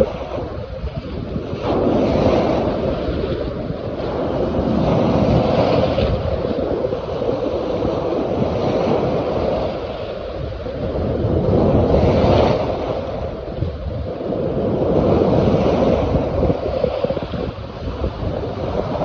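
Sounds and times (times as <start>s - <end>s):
river water washing and splashing: 0.0s - 19.0s.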